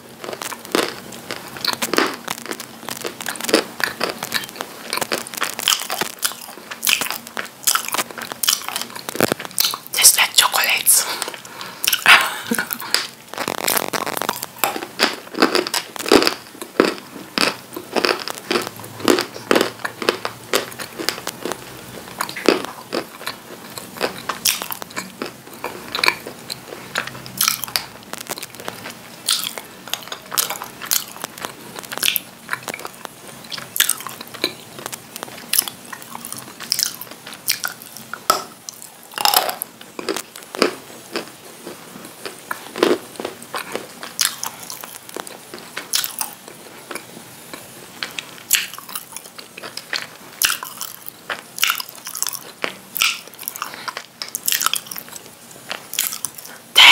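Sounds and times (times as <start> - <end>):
crunching and chewing clay: 0.0 - 10.0, 11.2 - 56.9.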